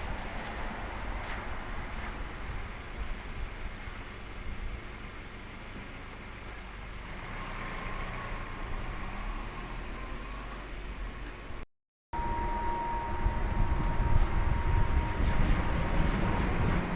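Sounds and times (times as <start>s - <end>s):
road noise on wet road: 0.0s - 11.6s, 12.2s - 16.9s
car engine low rumble: 0.0s - 16.9s.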